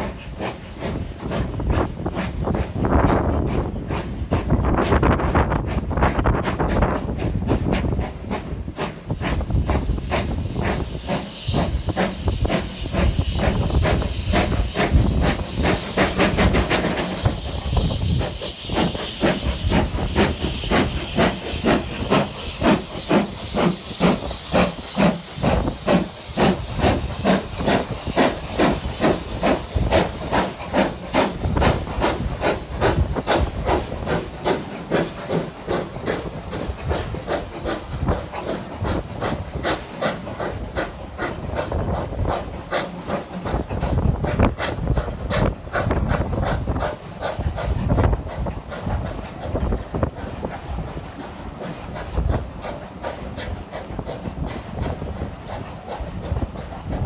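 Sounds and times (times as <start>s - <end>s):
steam hissing: 0.0s - 57.0s
steam locomotive exhaust beats: 0.0s - 57.0s
train coaches rolling past: 0.0s - 57.0s.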